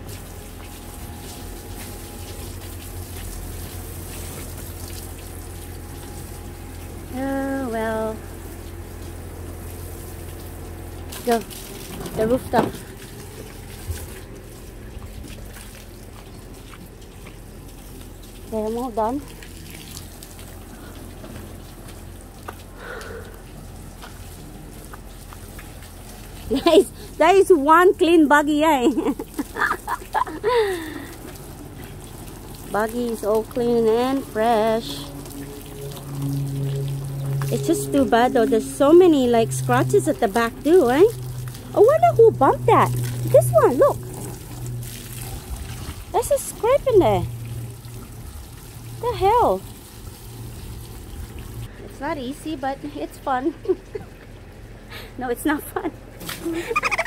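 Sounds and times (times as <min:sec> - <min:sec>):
hose spraying water on plastic: 0:00.0 - 0:52.4
low hum: 0:00.0 - 0:55.1.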